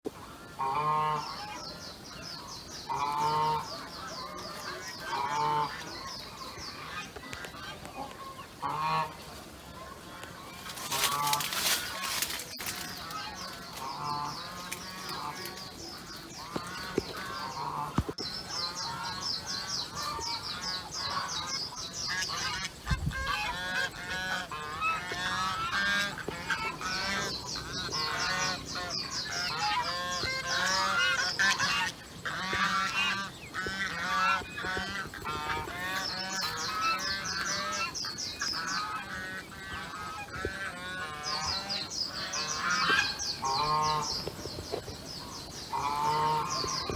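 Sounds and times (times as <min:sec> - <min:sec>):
farm animals calling: 0:00.1 - 0:46.9.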